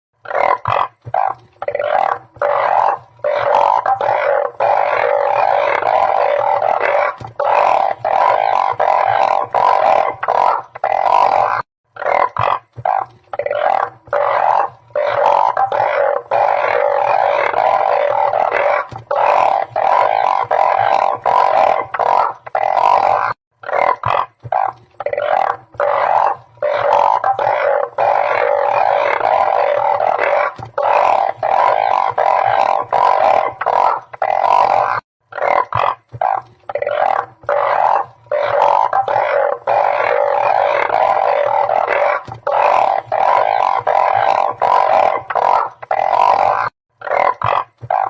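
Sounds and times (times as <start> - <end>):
frogs croaking in chorus: 0.2 - 48.0.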